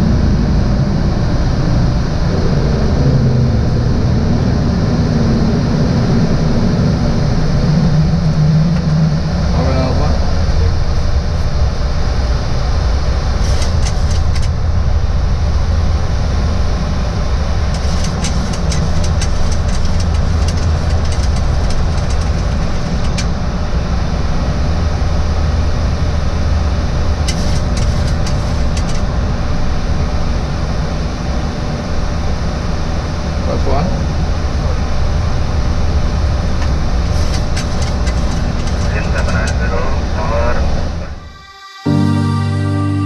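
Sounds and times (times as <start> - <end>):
cockpit engine and airflow rumble: 0.0 - 42.1.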